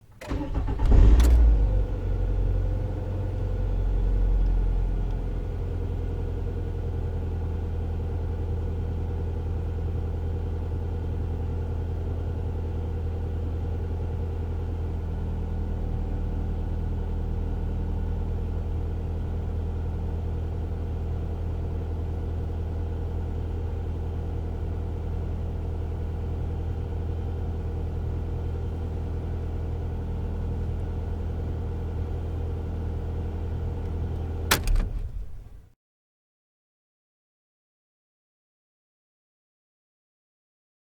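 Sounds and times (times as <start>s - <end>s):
car engine idling: 0.0s - 35.6s.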